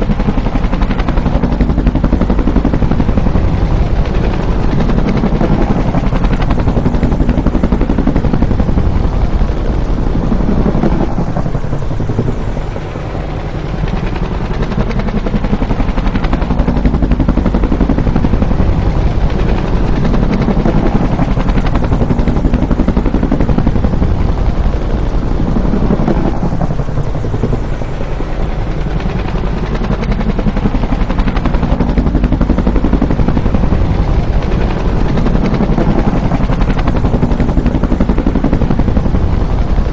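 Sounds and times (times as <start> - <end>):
helicopter rotor beat: 0.0 - 39.9
turbine engine: 0.0 - 39.9.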